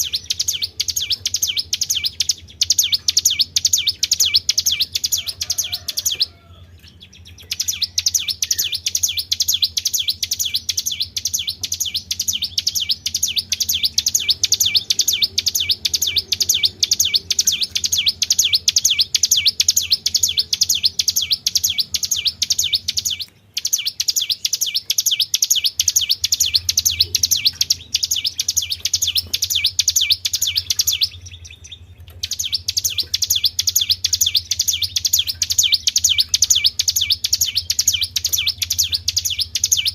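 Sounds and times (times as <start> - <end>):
faint low hum: 0.0 - 39.9
songbird trilling high notes: 0.0 - 39.9.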